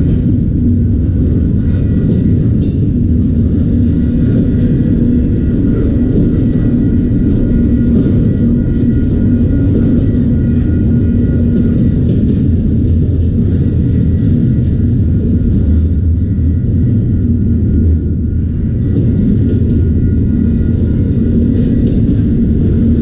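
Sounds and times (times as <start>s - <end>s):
freight train wheels rumbling on rail: 0.0s - 23.0s
low hum: 0.0s - 23.0s.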